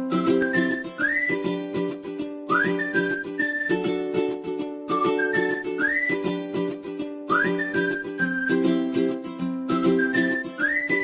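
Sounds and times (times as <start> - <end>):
plucked strings strummed: 0.0 - 11.0
whistled tune: 0.0 - 11.0.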